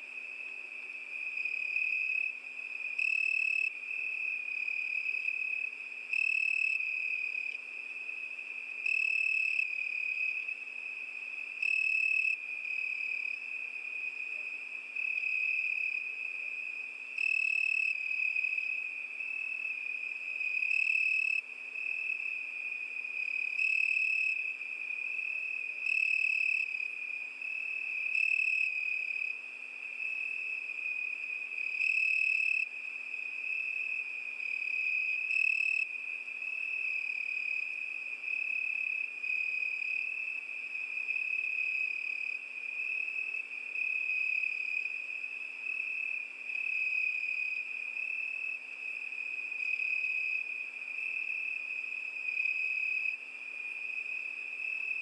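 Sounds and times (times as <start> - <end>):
crickets trilling: 0.0 - 55.0
nearby cricket chirping: 0.0 - 55.0.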